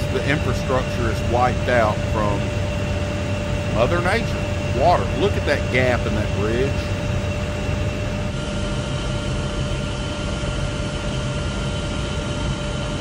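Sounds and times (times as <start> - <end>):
helicopter engine and rotor drone: 0.0 - 13.0
whining tones: 0.0 - 13.0.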